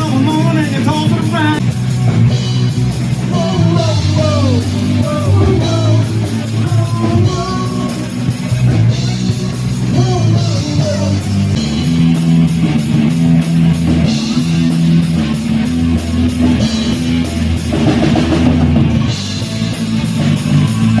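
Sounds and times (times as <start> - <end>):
bass: 0.0 - 21.0
drum kit with cymbals: 0.0 - 21.0
electric guitar: 0.0 - 21.0.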